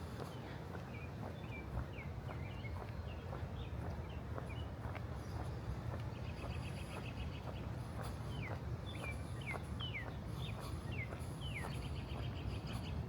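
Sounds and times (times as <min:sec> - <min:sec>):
footsteps on pavement: 0:00.0 - 0:13.0.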